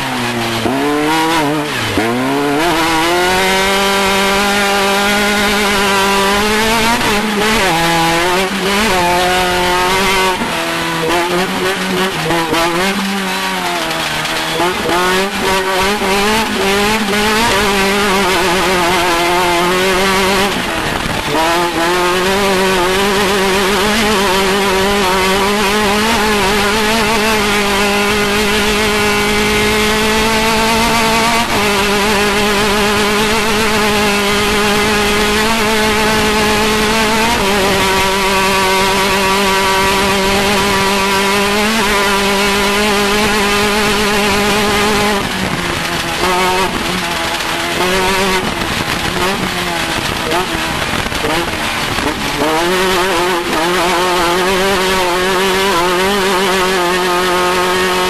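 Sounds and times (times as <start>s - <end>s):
race engine revving high: 0.0s - 58.0s.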